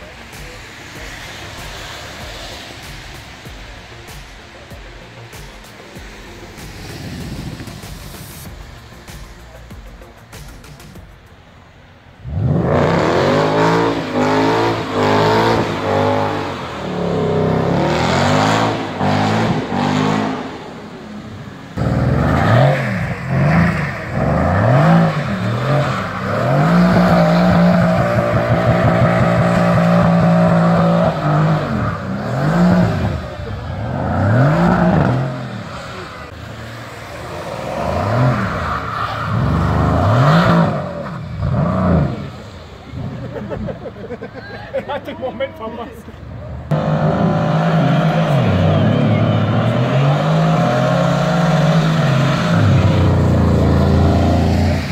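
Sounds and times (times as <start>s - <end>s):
car engine revving: 0.0s - 44.3s, 46.1s - 54.9s.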